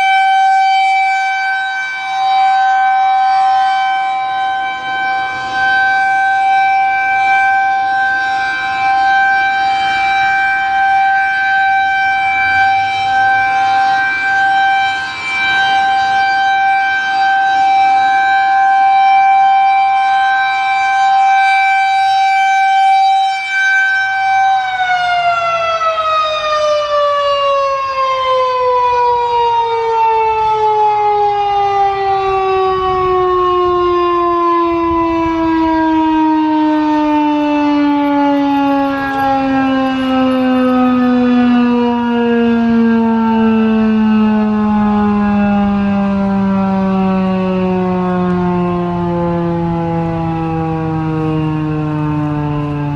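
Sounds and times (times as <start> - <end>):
warning siren: 0.0 - 52.9.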